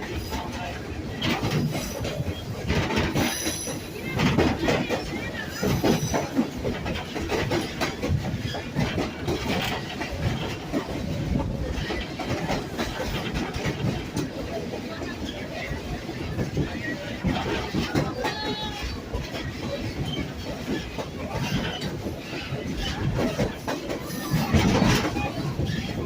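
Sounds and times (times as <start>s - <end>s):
train wheels rumbling on rails: 0.0s - 26.0s
wheels clacking over joints: 0.1s - 26.0s.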